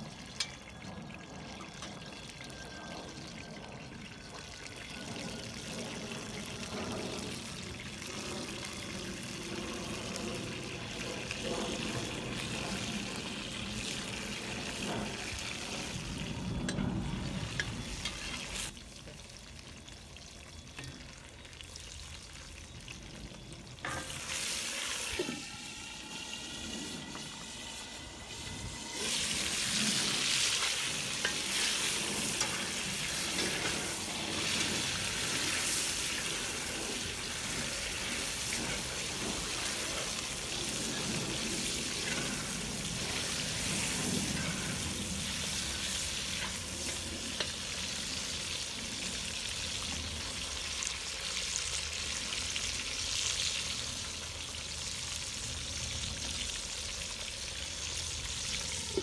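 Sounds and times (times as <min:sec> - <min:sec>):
oil sizzling in a wok: 0:01.5 - 0:59.0.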